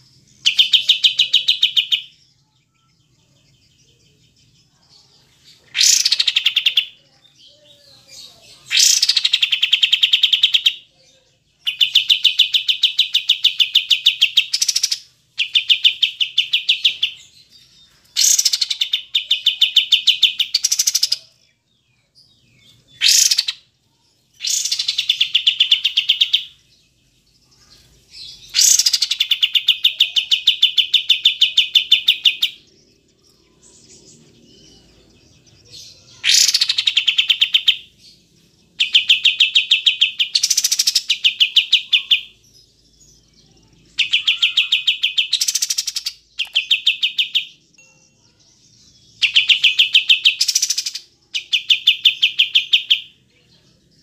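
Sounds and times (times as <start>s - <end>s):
bird singing fast chirps: 0.0s - 2.8s, 5.5s - 10.9s, 11.5s - 21.4s, 22.1s - 54.0s.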